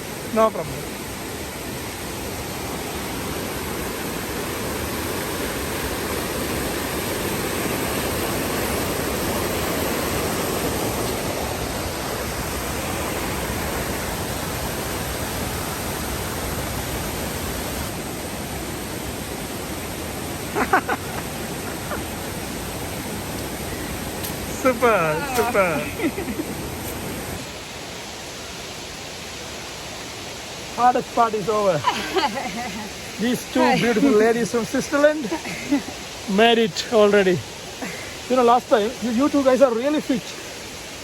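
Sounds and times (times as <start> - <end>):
rushing falling water: 0.0 - 41.0.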